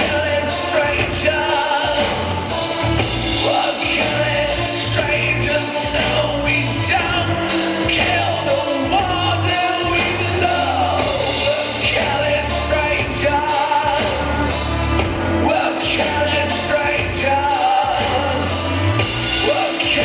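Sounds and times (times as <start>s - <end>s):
heavy bass: 0.0s - 20.0s
pop song with vocals: 0.0s - 20.0s.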